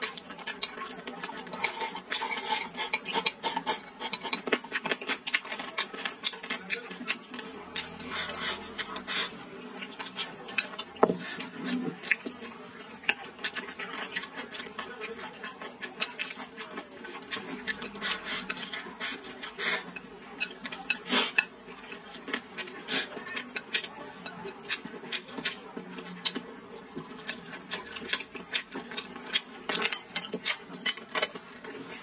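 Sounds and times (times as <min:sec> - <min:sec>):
person chewing: 0:00.0 - 0:32.0.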